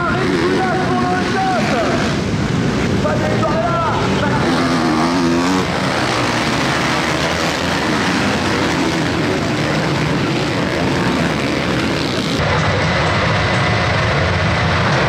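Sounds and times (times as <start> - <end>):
motocross bikes racing: 0.0 - 15.0.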